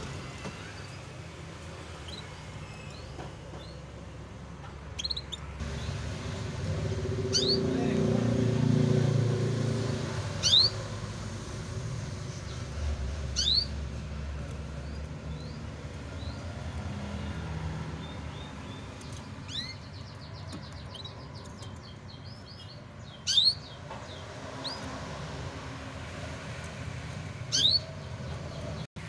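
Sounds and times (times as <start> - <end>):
canaries chirping: 0.0 - 28.9
canary twittering: 0.6 - 4.0, 4.8 - 8.4, 9.2 - 28.8.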